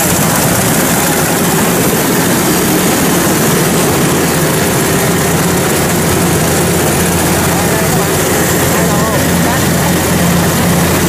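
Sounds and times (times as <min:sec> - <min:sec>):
diesel engine drone: 0:00.0 - 0:11.0
mechanical rush of threshing machinery: 0:00.0 - 0:11.0.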